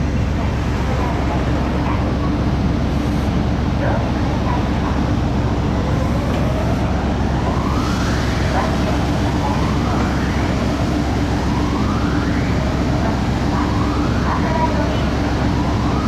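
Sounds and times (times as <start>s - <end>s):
ferry machinery rumble: 0.0s - 16.0s.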